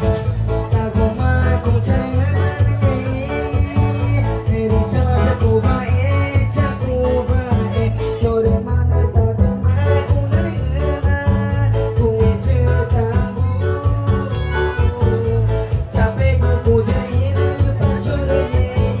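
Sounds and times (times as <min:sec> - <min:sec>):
live cumbia band music: 0:00.0 - 0:19.0.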